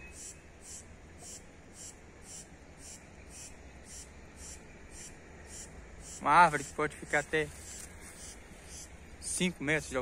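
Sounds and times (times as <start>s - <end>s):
insect calling in high pulses: 0.0s - 9.3s.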